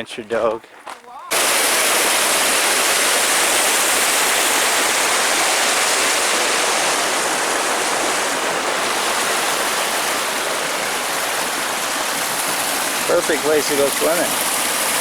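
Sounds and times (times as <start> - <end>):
water rushing over waterfall: 1.3 - 15.0.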